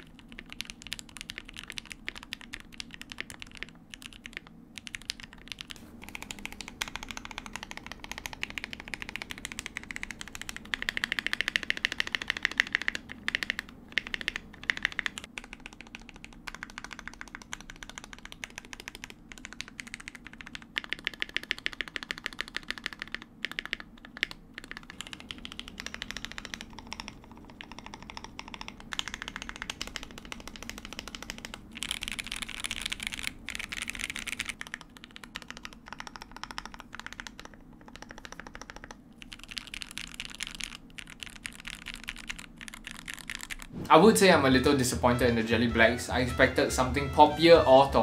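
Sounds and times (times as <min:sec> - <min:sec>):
mechanical keyboard key clacks: 0:00.0 - 0:43.6.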